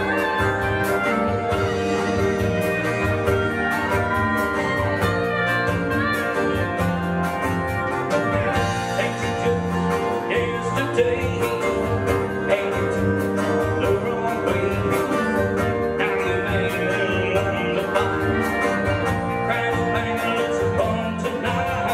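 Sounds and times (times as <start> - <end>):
acoustic guitar: 0.0 - 21.9
drum kit steady beat: 0.0 - 21.9
electric bass: 0.0 - 21.9
electric guitar: 0.0 - 21.9.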